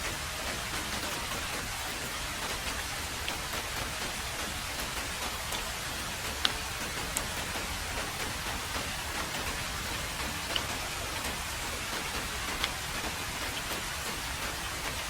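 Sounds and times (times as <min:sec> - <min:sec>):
heavy rain on a road: 0:00.0 - 0:15.0
single raindrops striking close: 0:00.0 - 0:15.0.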